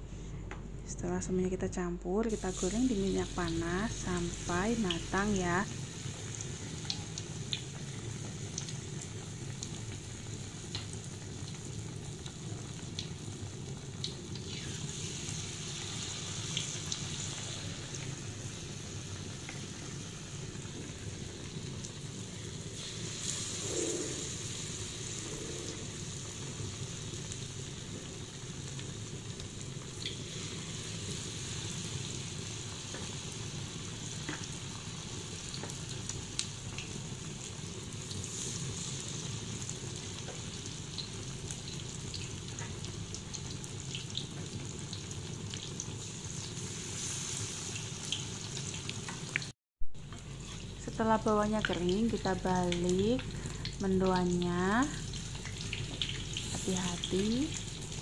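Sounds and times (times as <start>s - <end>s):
deep-frying sizzle: 2.3s - 58.0s.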